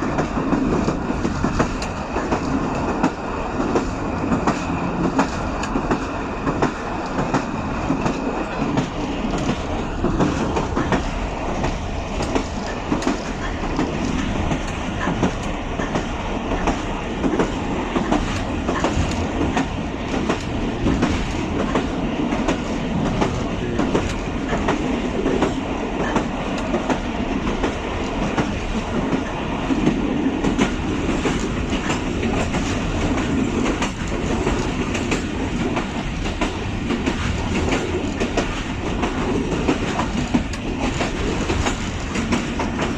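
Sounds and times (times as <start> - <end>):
rail joint clicks: 0.0 - 42.9
train wheels rumbling on rails: 0.0 - 42.9.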